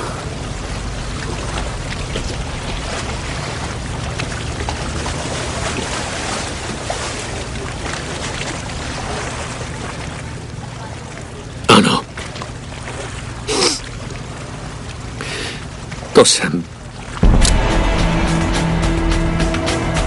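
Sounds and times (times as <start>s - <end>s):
steady water wash: 0.0s - 20.0s.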